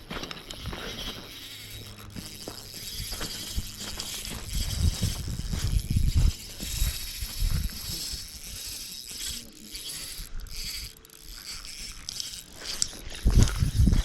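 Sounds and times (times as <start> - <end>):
fishing reel clicking: 0.0 - 14.0.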